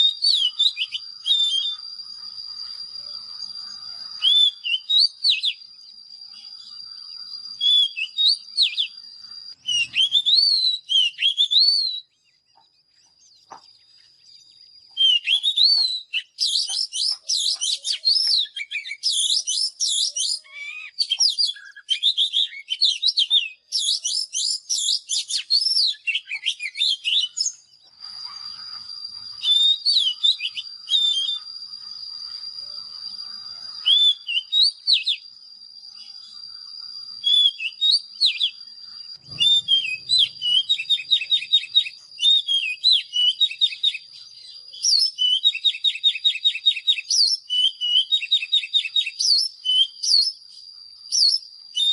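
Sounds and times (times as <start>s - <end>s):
faint steady high tone: 0.0s - 11.2s, 12.0s - 51.9s
bird singing whistled phrases: 0.0s - 51.9s.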